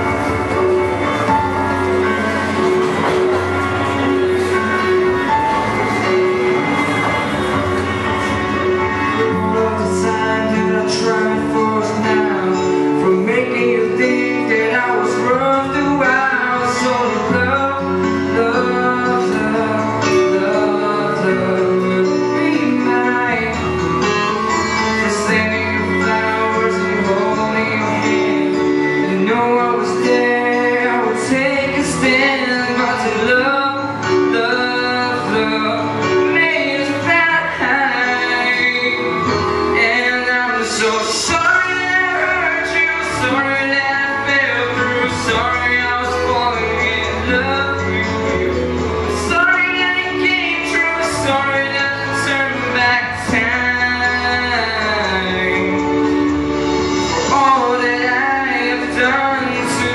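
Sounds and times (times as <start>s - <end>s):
pop ballad with guitar: 0.0s - 59.9s.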